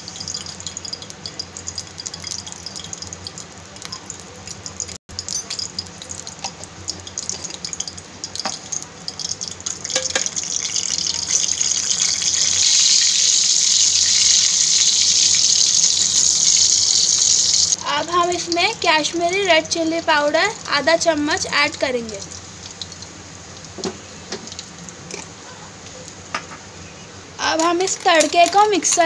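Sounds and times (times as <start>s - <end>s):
hot oil sizzling and popping: 0.0s - 26.7s.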